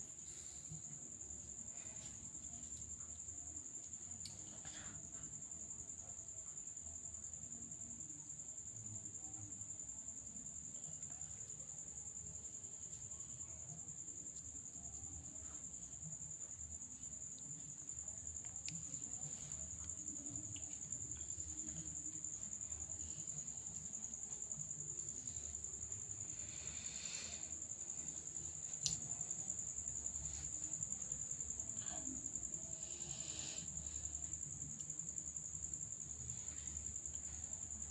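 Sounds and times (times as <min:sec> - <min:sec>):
crickets chirring: 0:00.0 - 0:37.9
faint low room rumble: 0:00.0 - 0:37.9.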